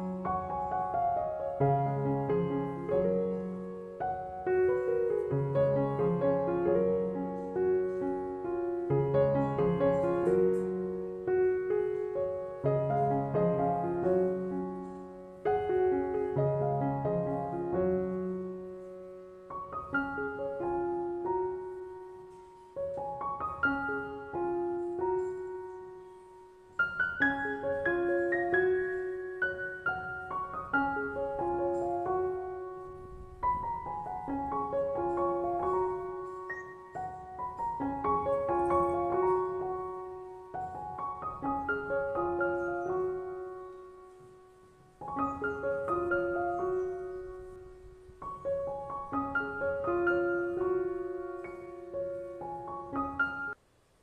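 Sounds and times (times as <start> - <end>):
slow piano music: 0.0 - 54.0.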